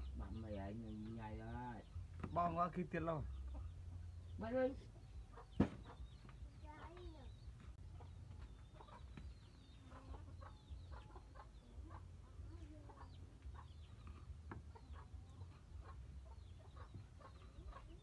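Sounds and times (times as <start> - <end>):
chickens clucking faintly: 0.0 - 18.0.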